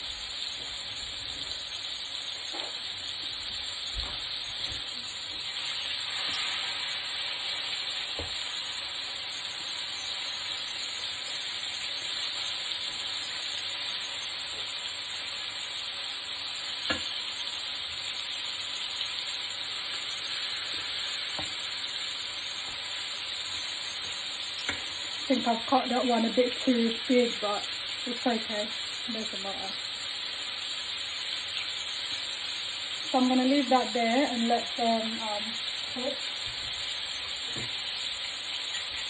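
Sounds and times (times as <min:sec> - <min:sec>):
chicken sizzling in oil: 0:00.0 - 0:39.0.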